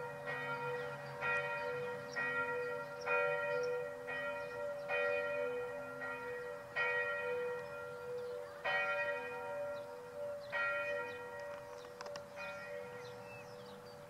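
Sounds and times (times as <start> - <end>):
church bell strikes: 0.0 - 14.0
hum of ringing bells: 0.0 - 14.0.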